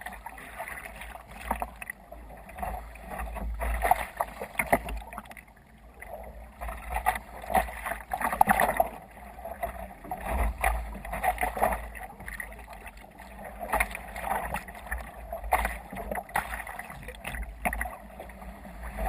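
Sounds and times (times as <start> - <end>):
water splashing against hull: 0.0 - 19.0.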